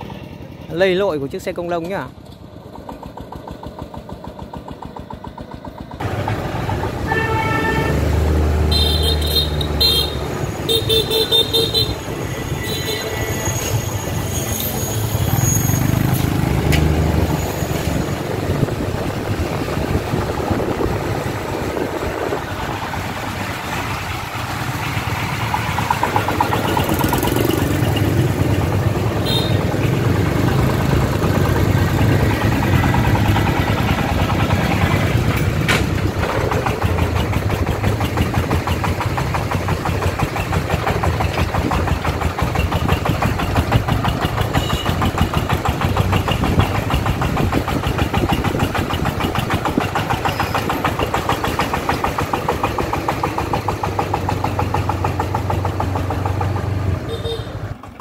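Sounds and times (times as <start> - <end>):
diesel engine chugging: 0.0 - 58.0
road rumble: 0.0 - 58.0.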